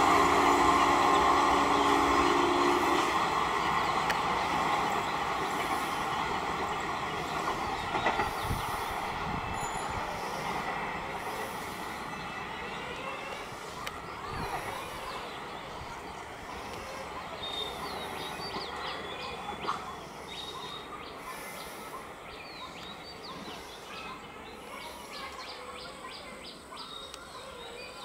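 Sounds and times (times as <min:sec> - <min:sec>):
birds chirping: 0:00.0 - 0:28.0
outdoor background noise: 0:00.0 - 0:28.0.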